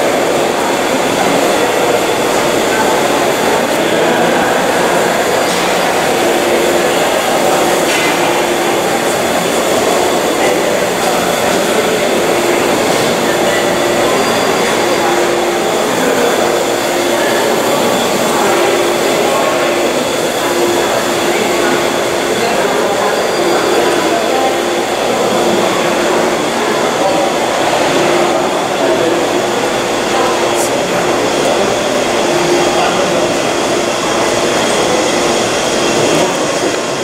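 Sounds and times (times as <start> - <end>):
murmur of voices: 0.0 - 37.0.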